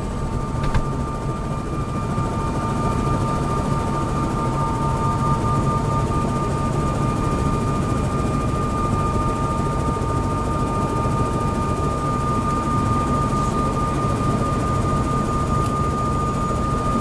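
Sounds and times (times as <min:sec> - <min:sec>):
helicopter engine whine: 0:00.0 - 0:17.0
helicopter rotor rumble: 0:00.0 - 0:17.0.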